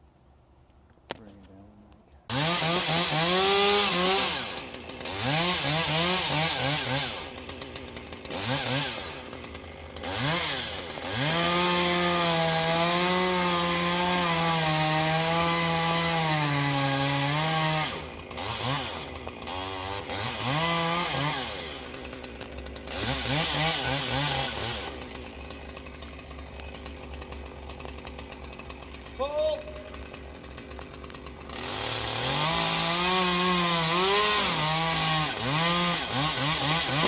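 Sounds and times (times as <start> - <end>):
chainsaw revving and cutting: 2.3 - 37.0.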